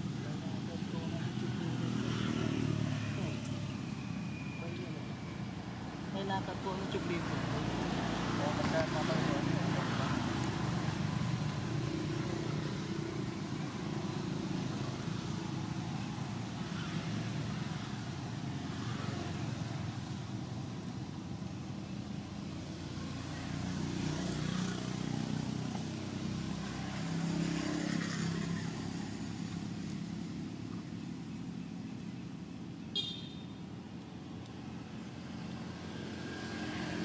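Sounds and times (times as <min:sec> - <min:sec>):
passing motor vehicles: 0:00.0 - 0:37.0.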